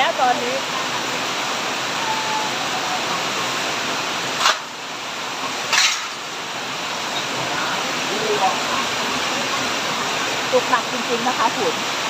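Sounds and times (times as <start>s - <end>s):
heavy rain: 0.0s - 12.0s
rushing floodwater: 0.0s - 12.0s.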